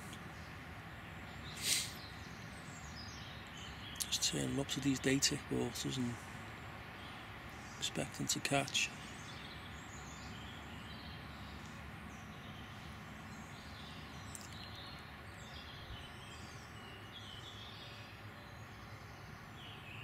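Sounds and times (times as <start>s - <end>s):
outdoor background noise: 0.0s - 20.0s
small birds chirping: 0.0s - 20.0s.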